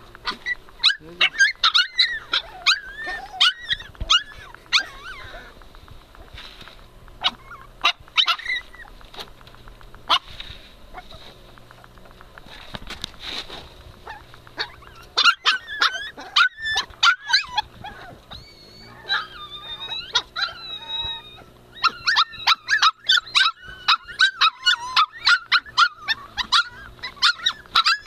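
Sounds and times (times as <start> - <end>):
puppies whining: 0.0 - 13.2, 13.8 - 28.0
puppies yipping: 0.0 - 28.0.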